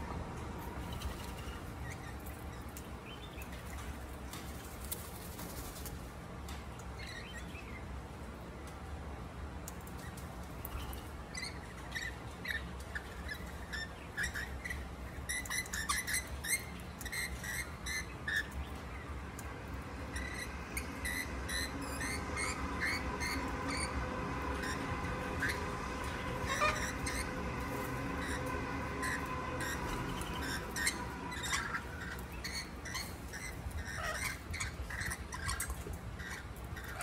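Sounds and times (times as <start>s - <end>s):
steady low hum: 0.0s - 37.0s
birds chirping: 0.6s - 8.8s, 9.8s - 37.0s.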